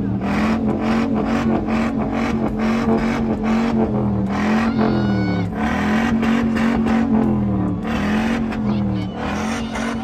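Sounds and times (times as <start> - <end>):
car engine revving high: 0.0 - 10.0.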